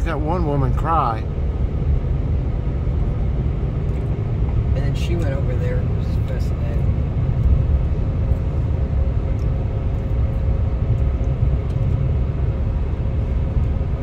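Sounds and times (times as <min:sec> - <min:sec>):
car cabin road rumble: 0:00.0 - 0:14.0
faint steady hum: 0:00.0 - 0:14.0.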